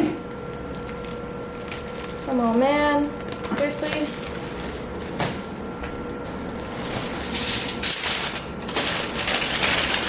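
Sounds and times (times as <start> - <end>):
plastic bag crinkling: 0.0 - 5.6, 6.3 - 10.0
faint hum: 0.0 - 10.0.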